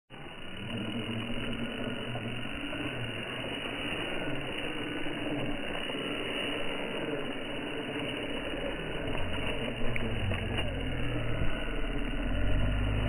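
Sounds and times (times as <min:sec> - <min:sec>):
toy car electric motor whirring: 0:00.2 - 0:13.0.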